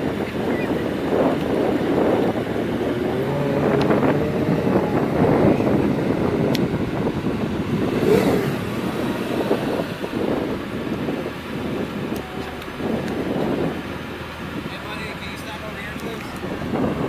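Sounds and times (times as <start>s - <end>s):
car engine running: 0.0s - 17.0s
wind buffeting microphone: 0.0s - 17.0s.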